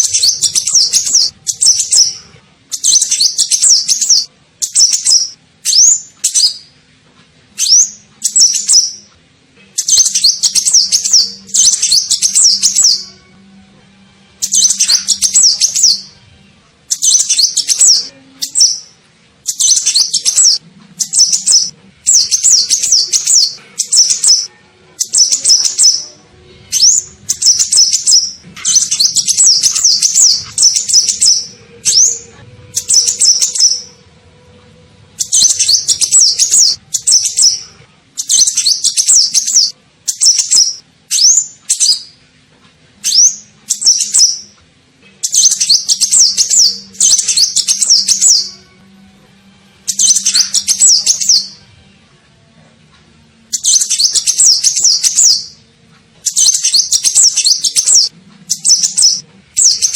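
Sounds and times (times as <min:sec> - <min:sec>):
bird twittering song: 0:00.0 - 0:06.8, 0:07.6 - 0:09.1, 0:09.7 - 0:13.1, 0:14.4 - 0:16.2, 0:16.9 - 0:34.0, 0:35.2 - 0:37.6, 0:38.2 - 0:42.2, 0:43.0 - 0:44.6, 0:45.2 - 0:48.6, 0:49.8 - 0:51.6, 0:53.5 - 0:55.6, 0:56.2 - 0:59.9.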